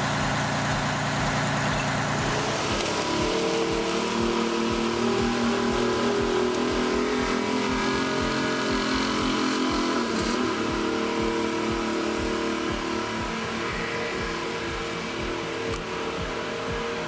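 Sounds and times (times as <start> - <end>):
background music with beat: 0.0 - 17.0.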